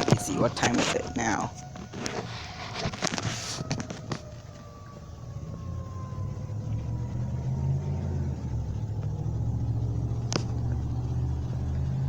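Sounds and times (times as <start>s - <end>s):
passing car rumble: 0.0s - 12.0s
warning siren winding down: 0.0s - 12.0s.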